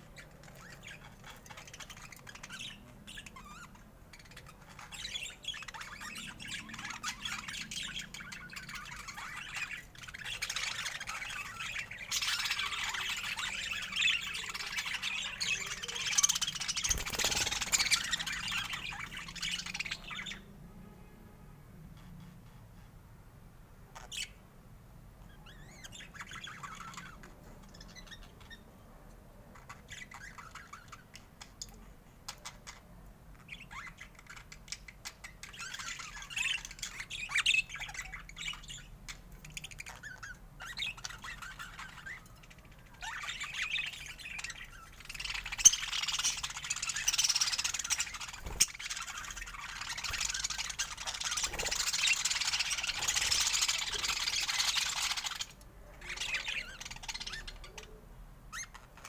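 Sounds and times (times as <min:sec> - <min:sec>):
budgerigars chattering and squawking: 0:00.0 - 0:20.5, 0:23.9 - 0:24.4, 0:25.3 - 0:28.8, 0:29.5 - 0:59.0.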